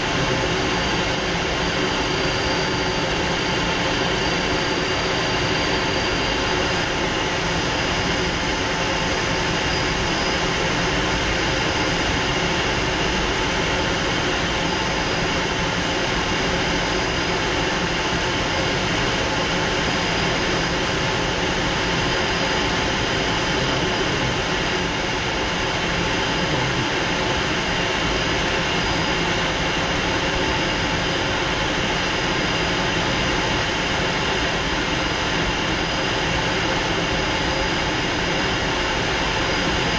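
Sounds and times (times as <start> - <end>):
jet engine whine in cockpit: 0.0 - 39.9.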